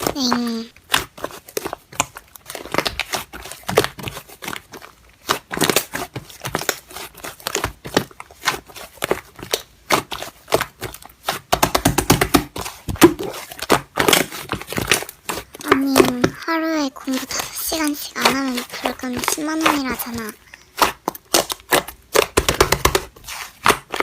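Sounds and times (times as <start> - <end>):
slime squished by hand: 0.0 - 24.0.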